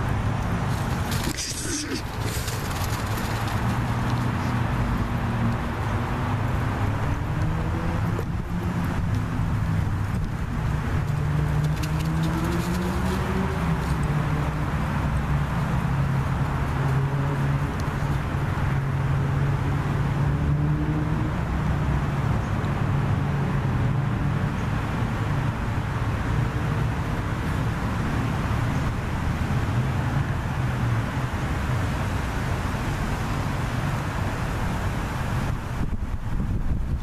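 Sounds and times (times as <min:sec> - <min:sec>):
road traffic hum: 0:00.0 - 0:37.0.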